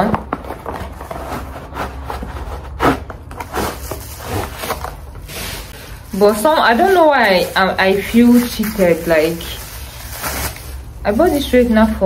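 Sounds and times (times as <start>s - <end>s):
packaging rustling and scraping: 0.0s - 12.0s.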